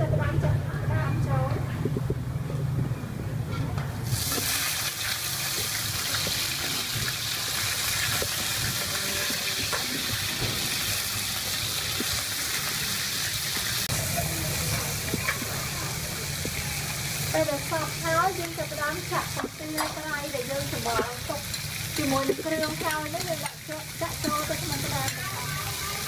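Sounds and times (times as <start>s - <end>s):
crab sizzling in hot oil: 4.0s - 26.0s.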